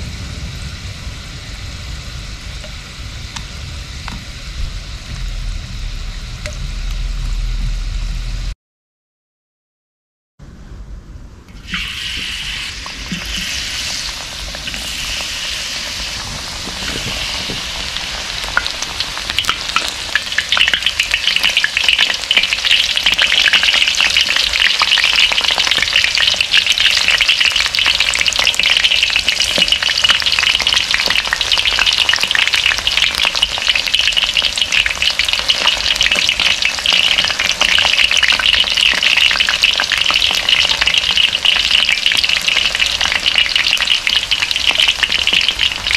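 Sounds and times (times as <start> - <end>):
food deep-frying in oil: 0.0 - 8.5, 11.5 - 45.9.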